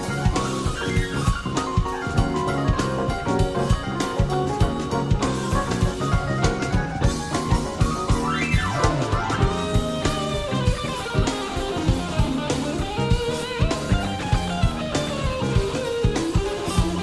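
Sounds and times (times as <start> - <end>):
electric guitar fast run: 0.0 - 17.0
jazz-fusion band playing: 0.0 - 17.0.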